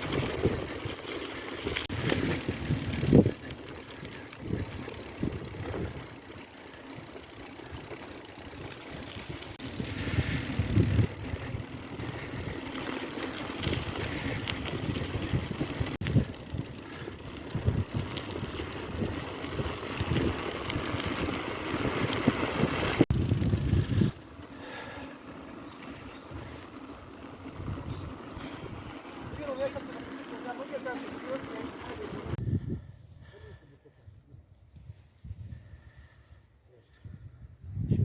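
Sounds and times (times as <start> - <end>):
bicycle tyre riding noise: 0.0 - 33.9.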